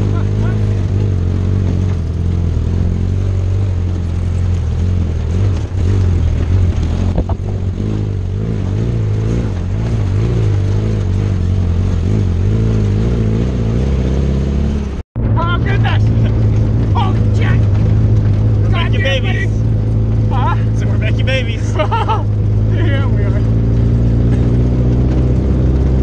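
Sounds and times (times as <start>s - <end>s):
engine running at low revs: 0.0s - 26.0s.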